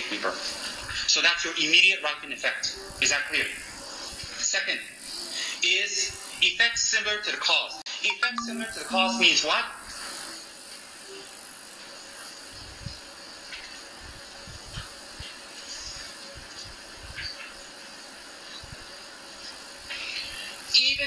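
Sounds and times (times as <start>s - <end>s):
steady hiss: 0.0s - 7.1s, 8.8s - 21.0s.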